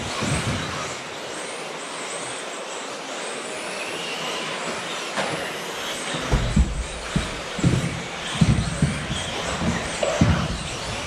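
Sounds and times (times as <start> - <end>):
electric rc car motors whining: 0.0 - 11.0.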